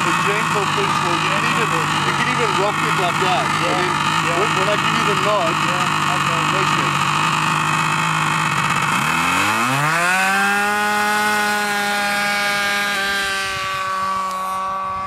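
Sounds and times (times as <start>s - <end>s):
model aircraft engine buzzing: 0.0s - 15.0s.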